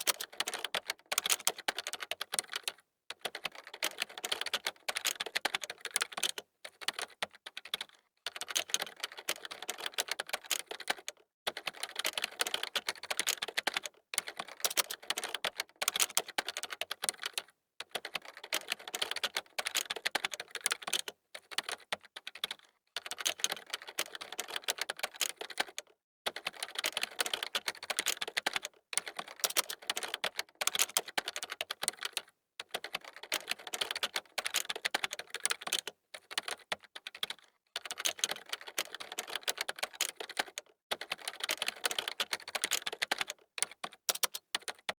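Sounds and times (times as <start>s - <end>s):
fast typing on keyboard: 0.0s - 45.0s.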